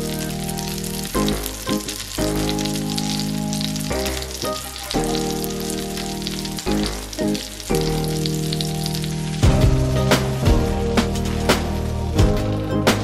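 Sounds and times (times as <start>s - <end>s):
background music of held chords: 0.0s - 13.0s
fish fillets sizzling in hot oil: 0.0s - 13.0s.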